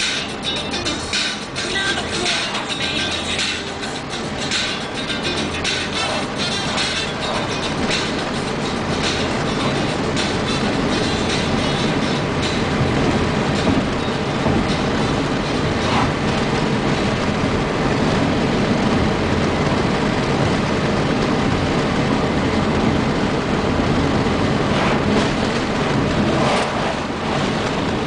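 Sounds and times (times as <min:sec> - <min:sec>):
car road noise: 0:00.0 - 0:28.0
truck passing: 0:00.0 - 0:28.0.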